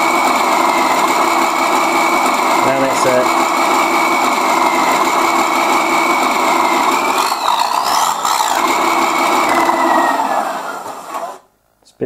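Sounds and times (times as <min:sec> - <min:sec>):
simulated diesel engine from speaker: 0:00.0 - 0:11.5.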